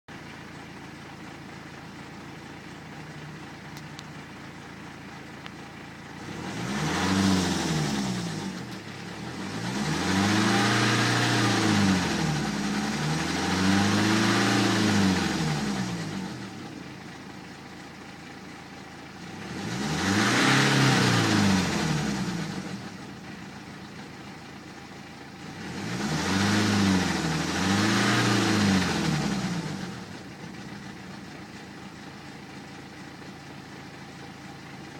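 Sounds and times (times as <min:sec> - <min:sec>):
diesel engine idling and revving: 0:00.1 - 0:34.9.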